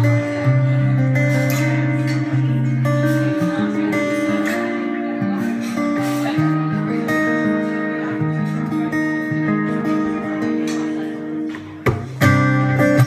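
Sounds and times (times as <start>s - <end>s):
acoustic guitar picking: 0.0s - 13.0s
strummed guitar chord: 0.0s - 13.0s.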